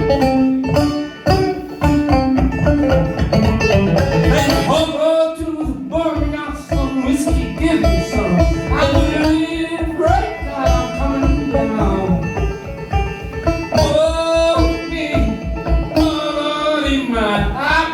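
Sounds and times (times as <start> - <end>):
banjo playing old-time tune: 0.0 - 17.9.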